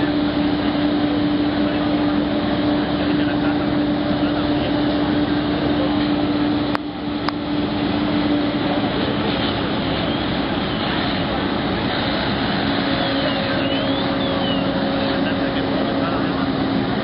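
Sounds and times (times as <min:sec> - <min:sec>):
diesel engines running: 0:00.0 - 0:17.0
water rushing: 0:00.0 - 0:17.0.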